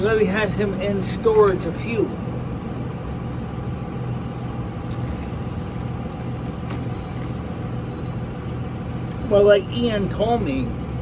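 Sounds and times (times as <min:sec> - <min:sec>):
low mechanical rumble with hum: 0:00.0 - 0:11.0.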